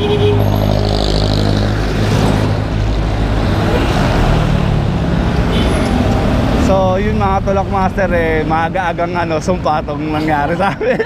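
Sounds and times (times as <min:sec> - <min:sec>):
vehicle engine humming: 0:00.0 - 0:10.8
traffic rushing: 0:00.0 - 0:11.0.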